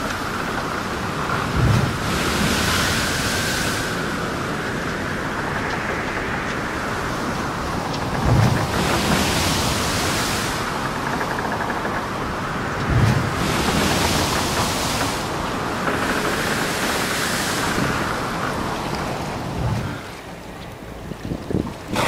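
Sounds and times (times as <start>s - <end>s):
low rumbles: 0.0s - 22.0s
sea water rushing: 0.0s - 22.0s
wind noise: 0.0s - 22.0s.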